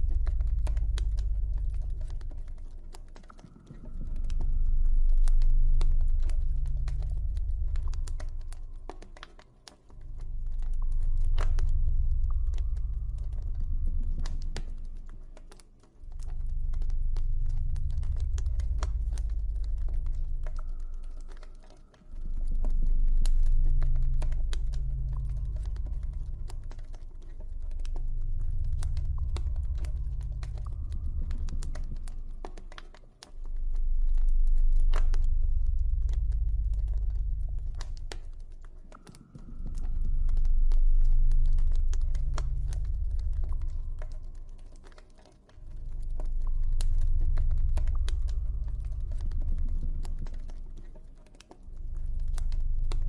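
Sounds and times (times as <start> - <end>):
ambient music drones: 0.0 - 53.0.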